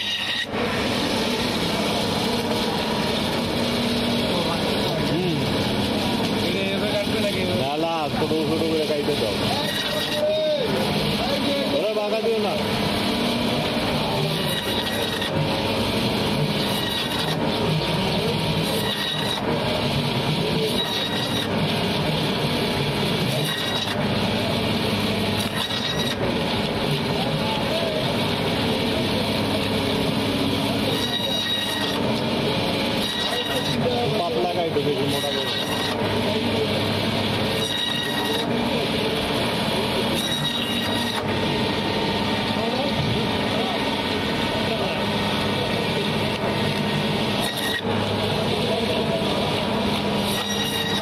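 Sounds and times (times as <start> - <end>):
band saw cutting fish: 0.0 - 51.0.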